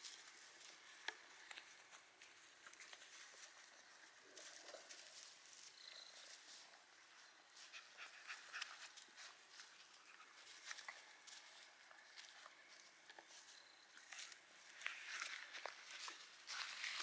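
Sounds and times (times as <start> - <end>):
animals rustling on grass: 0.0 - 17.0.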